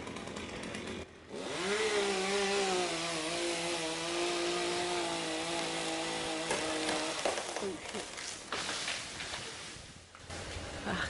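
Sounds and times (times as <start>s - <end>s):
chainsaw cutting wood: 0.0s - 9.0s.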